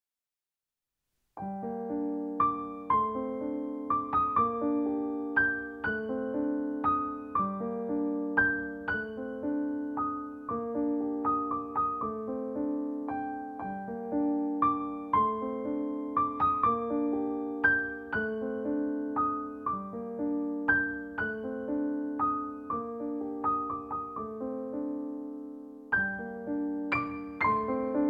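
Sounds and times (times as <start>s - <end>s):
gentle piano melody: 1.4s - 28.0s.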